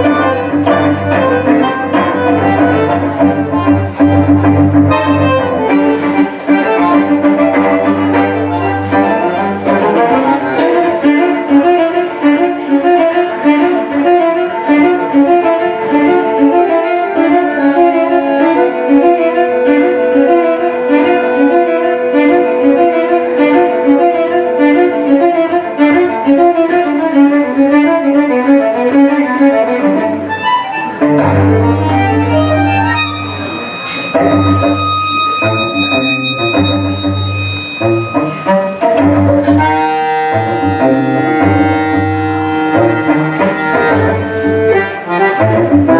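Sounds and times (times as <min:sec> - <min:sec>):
bandoneon playing: 0:00.0 - 0:45.9
cello playing: 0:00.0 - 0:45.9.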